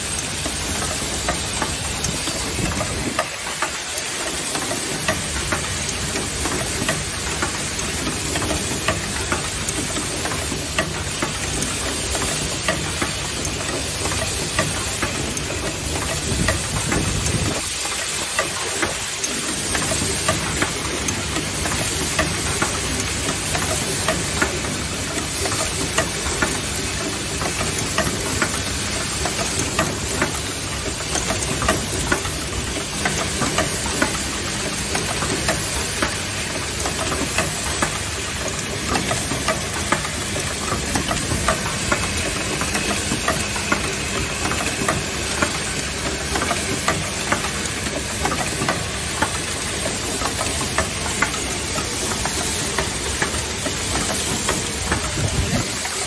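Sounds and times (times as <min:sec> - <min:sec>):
metal clicks and knocks of machine: 0:00.0 - 0:56.0.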